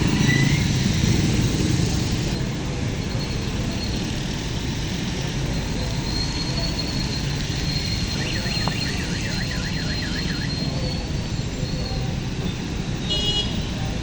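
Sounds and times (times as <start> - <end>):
warbling electronic alarm: 0.0 - 13.0
road traffic: 0.0 - 14.0.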